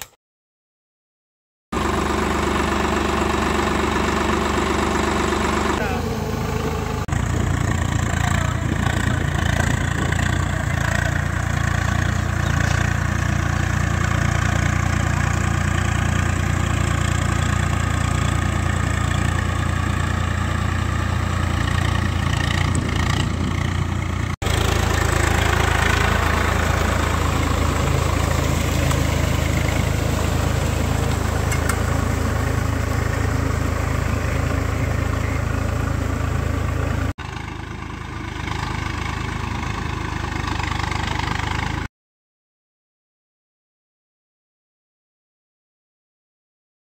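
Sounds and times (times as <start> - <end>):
tractor diesel engine running: 1.7 - 41.9.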